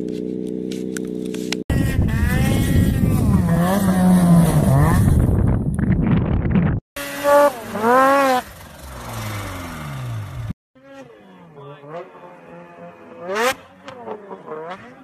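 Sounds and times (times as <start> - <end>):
snowmobile engine revving: 0.1 - 5.2, 7.0 - 15.0.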